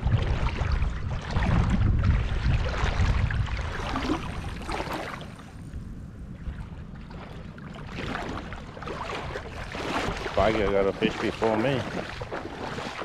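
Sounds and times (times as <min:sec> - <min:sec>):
water sloshing around wading person: 0:00.0 - 0:13.0
wind rumble on microphone: 0:00.0 - 0:13.0.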